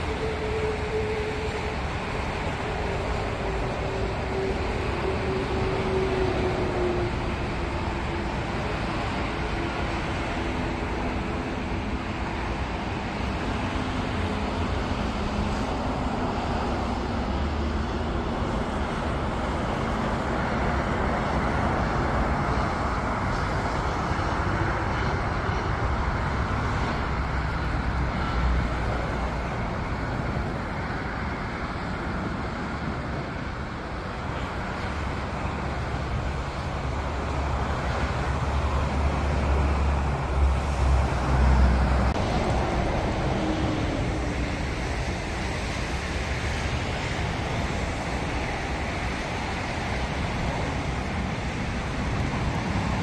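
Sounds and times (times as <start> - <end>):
jet engines rushing: 0.0 - 53.0.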